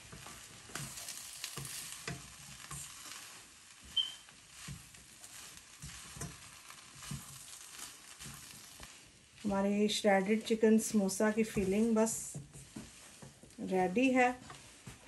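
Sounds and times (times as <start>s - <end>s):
faint sizzle of frying food: 0.0s - 15.0s
spatula scraping a wok: 0.0s - 15.0s.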